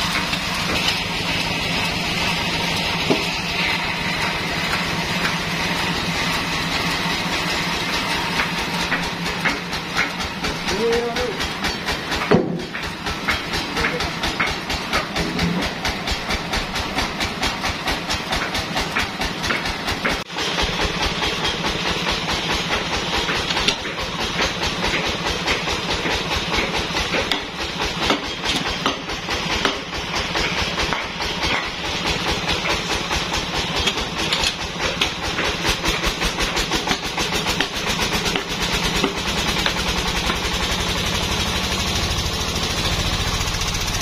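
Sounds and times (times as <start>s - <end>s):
band sawmill running: 0.0s - 44.0s.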